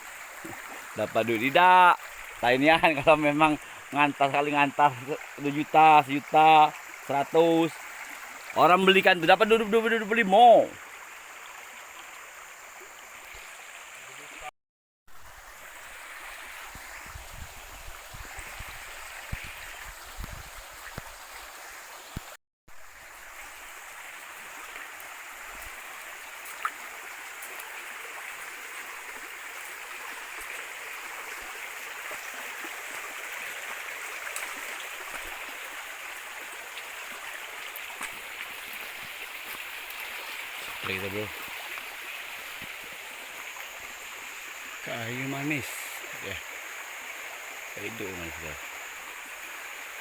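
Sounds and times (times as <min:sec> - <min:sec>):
running water: 0:00.0 - 0:14.5, 0:15.1 - 0:50.0.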